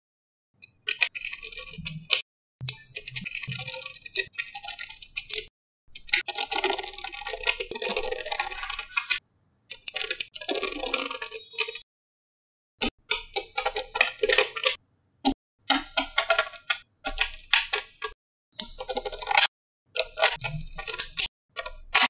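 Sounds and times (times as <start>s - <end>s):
magnetic balls clicking: 0.6s - 11.9s, 12.8s - 22.0s.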